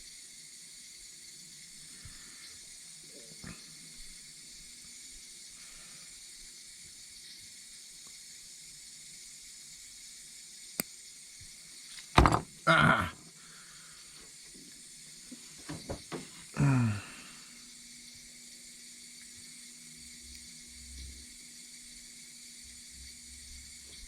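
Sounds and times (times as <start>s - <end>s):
faint background hiss: 0.0s - 24.0s.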